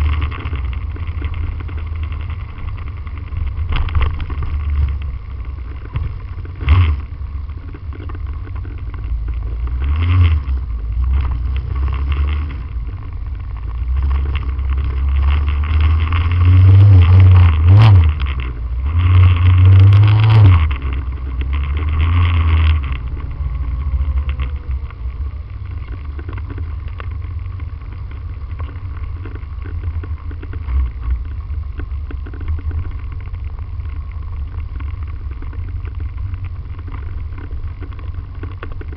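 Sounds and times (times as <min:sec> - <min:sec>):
motorcycle engine: 0:00.0 - 0:38.9
road rumble: 0:00.0 - 0:38.9.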